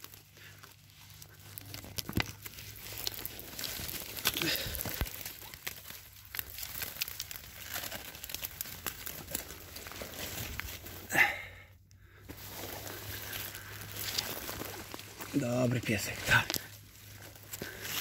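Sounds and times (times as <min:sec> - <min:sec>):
twigs snapping: 0:00.0 - 0:11.1, 0:12.3 - 0:18.0
brush and leaves rustling: 0:00.0 - 0:18.0.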